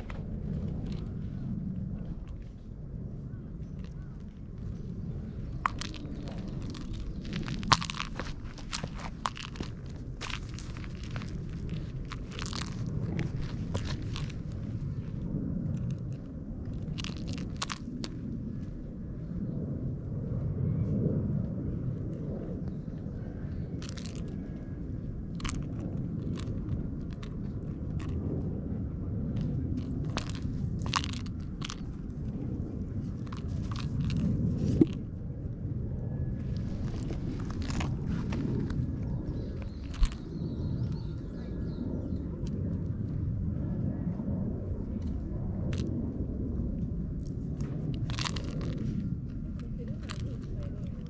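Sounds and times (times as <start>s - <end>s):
handling crackles and rustles: 0.0s - 19.3s, 21.9s - 35.2s, 36.2s - 43.2s, 44.7s - 51.0s
steady low rumble: 0.0s - 51.0s.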